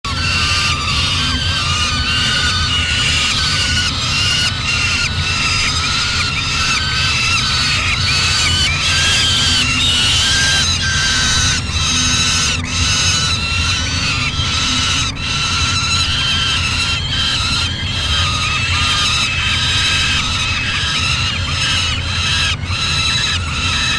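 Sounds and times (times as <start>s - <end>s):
steady low hum: 0.1s - 23.9s
young falcons wailing begging calls: 0.1s - 23.9s.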